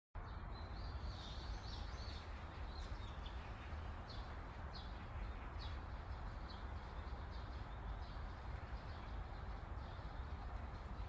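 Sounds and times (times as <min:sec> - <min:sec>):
low rumble of park ambience: 0:00.2 - 0:11.0
small birds chirping: 0:00.2 - 0:11.0.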